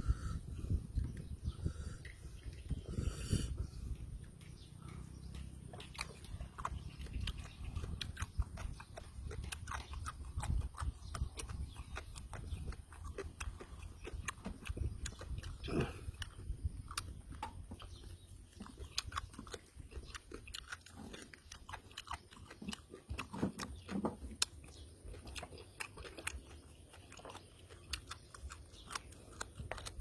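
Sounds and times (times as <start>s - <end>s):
wet chewing mouth sounds: 0.0s - 30.0s.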